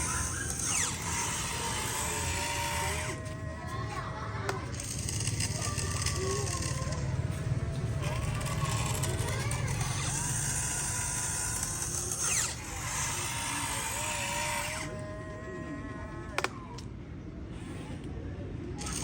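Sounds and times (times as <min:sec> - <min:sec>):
small electric motor whining: 0:00.0 - 0:16.9, 0:18.8 - 0:19.0.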